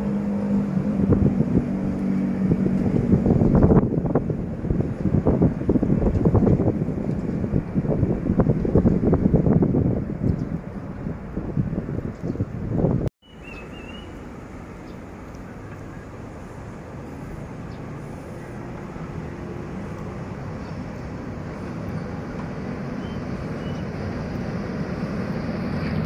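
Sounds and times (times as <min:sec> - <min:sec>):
locomotive engine rumble: 0:00.0 - 0:26.0.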